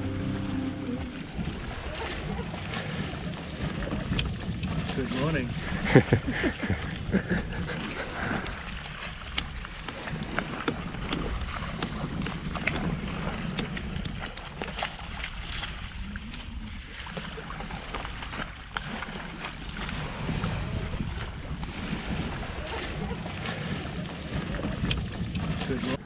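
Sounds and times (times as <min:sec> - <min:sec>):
water washing along hull: 0:00.0 - 0:26.0
wind buffeting microphone: 0:00.0 - 0:26.0.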